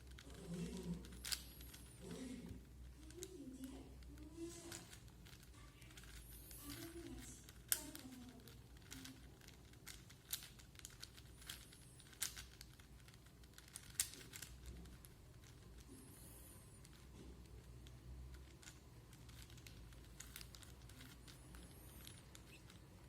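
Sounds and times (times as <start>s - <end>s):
puzzle cube layers clicking: 0.0s - 23.0s.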